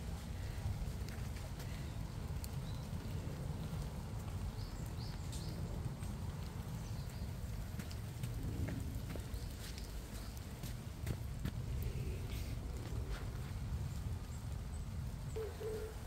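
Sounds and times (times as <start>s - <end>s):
light ticks: 1.0s - 14.6s.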